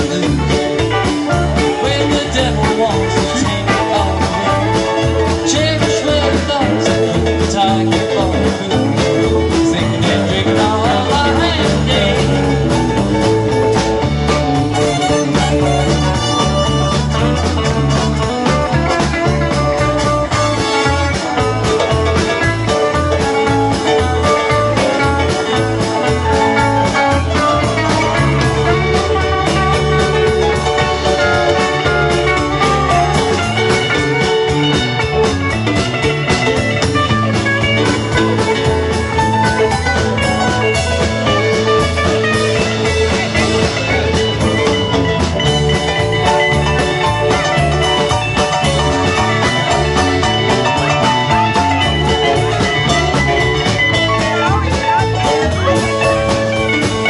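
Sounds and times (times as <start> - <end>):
bass guitar: 0.0 - 57.0
drum kit beat: 0.0 - 57.0
electric guitar: 0.0 - 57.0.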